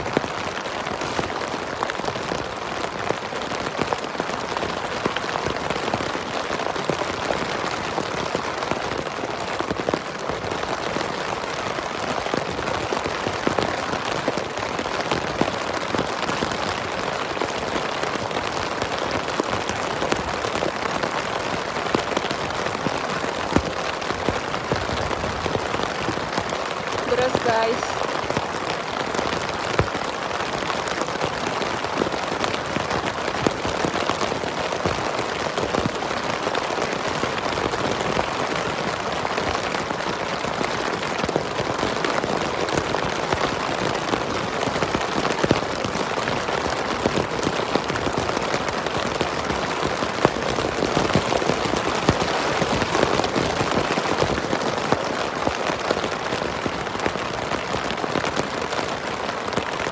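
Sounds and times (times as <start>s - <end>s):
rain drops ticking on tent fabric: 0.0s - 59.9s.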